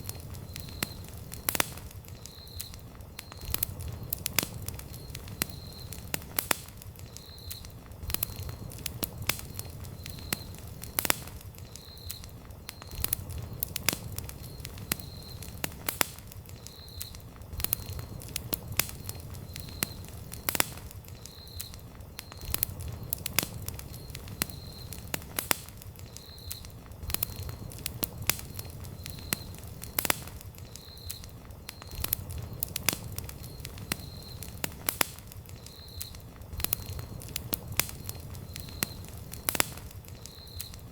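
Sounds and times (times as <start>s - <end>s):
campfire crackling and popping: 0.0s - 40.9s
low rumble of flames: 0.0s - 40.9s.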